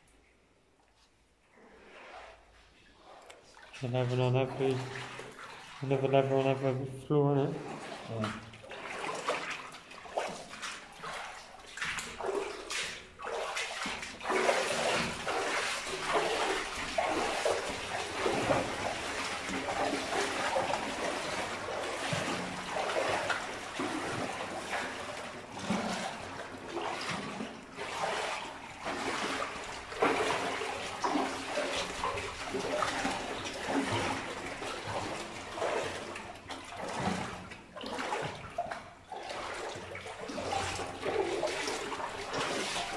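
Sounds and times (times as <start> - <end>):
footsteps splashing in shallow water: 1.6 - 42.9.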